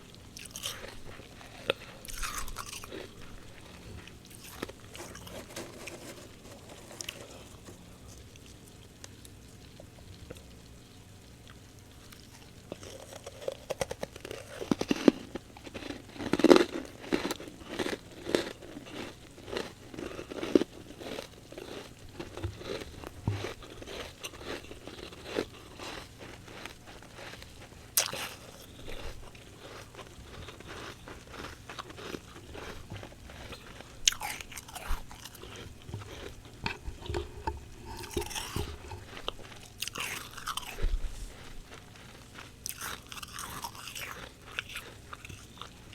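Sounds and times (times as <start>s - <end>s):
crunching and chewing frost: 0.0s - 45.9s.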